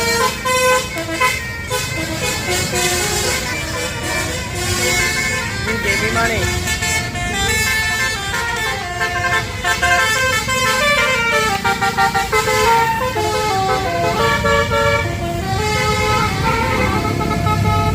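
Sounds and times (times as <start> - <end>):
bus horn melody: 0.0 - 17.9.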